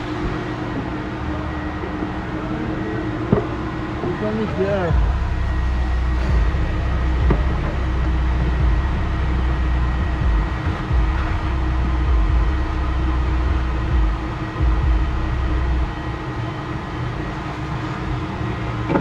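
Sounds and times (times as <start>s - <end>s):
low rumbling of vacuum nozzle: 0.0s - 19.0s.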